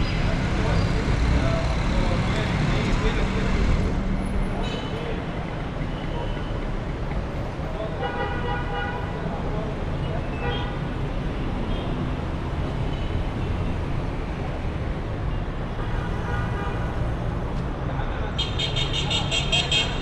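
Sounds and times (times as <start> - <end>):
city traffic rumbling: 0.0 - 20.0.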